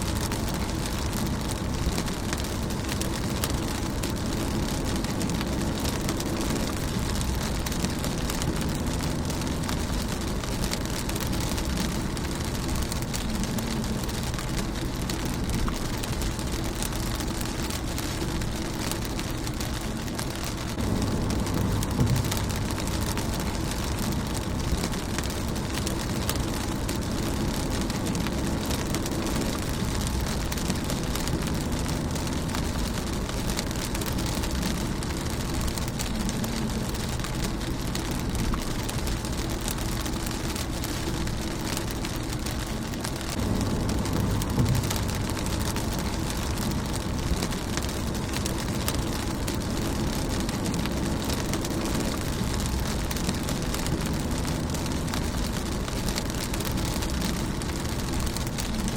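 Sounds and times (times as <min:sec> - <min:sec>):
low rumble: 0:00.0 - 0:58.9
rain on a car windshield: 0:00.0 - 0:58.9.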